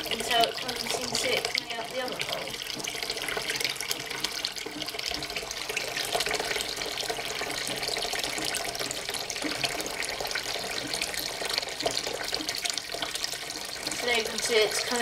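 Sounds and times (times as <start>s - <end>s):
tap water splashing into bowl: 0.0s - 15.0s.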